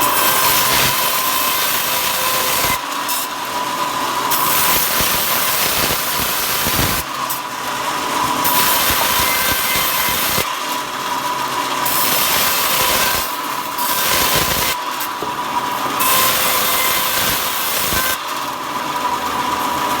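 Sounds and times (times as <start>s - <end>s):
power saw cutting wood: 0.0s - 20.0s.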